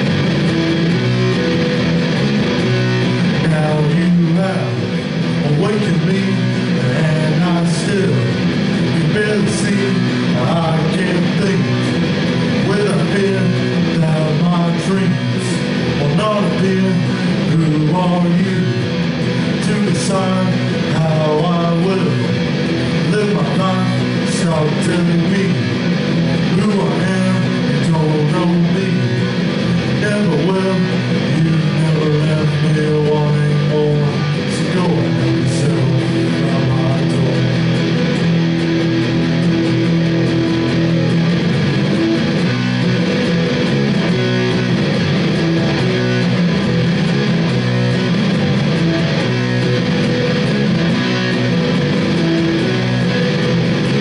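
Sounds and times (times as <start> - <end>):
live rock band music: 0.0 - 54.0.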